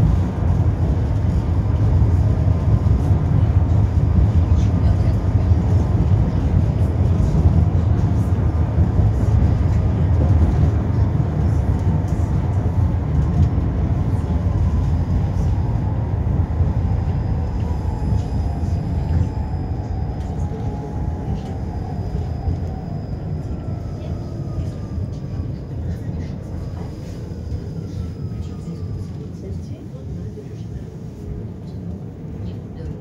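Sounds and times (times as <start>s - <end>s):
tram wheels rumbling: 0.0s - 33.0s.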